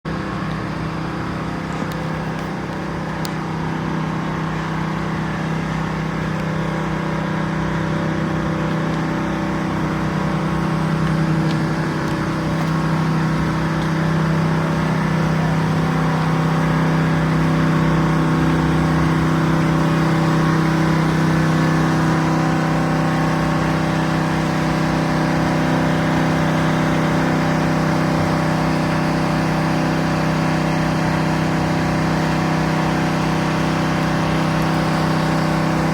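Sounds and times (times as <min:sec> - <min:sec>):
machine humming: 0:00.1 - 0:35.9.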